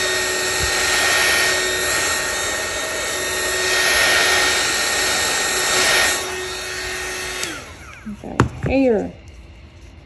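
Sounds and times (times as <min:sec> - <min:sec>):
heat gun blower whine: 0:00.0 - 0:09.9.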